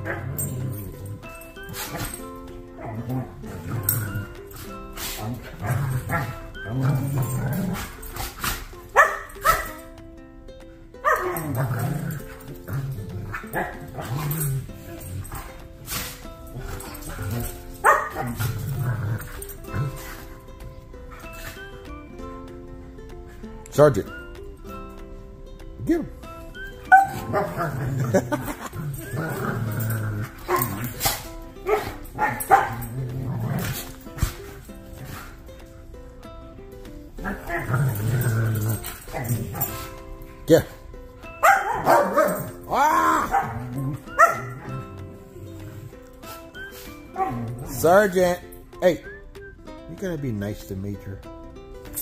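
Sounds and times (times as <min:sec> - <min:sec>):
dogs growling and barking: 0:00.0 - 0:48.6
background music: 0:00.0 - 0:52.0.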